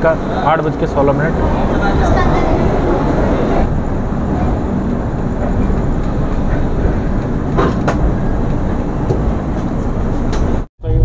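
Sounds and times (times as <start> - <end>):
train wheels rumbling on rails: 0.0 - 10.7.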